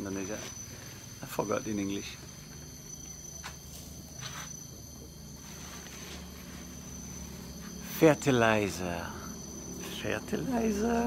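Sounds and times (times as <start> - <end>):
insects calling high-pitched: 0.0 - 11.0.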